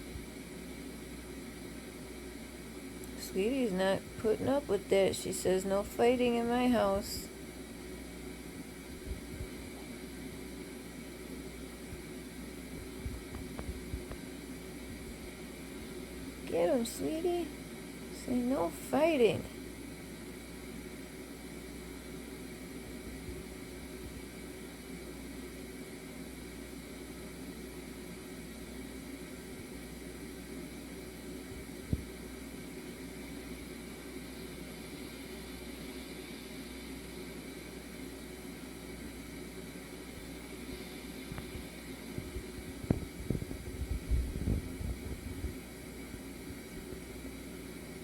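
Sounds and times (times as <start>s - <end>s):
aquarium filter hiss: 0.0s - 4.2s, 6.8s - 16.5s, 19.6s - 48.0s.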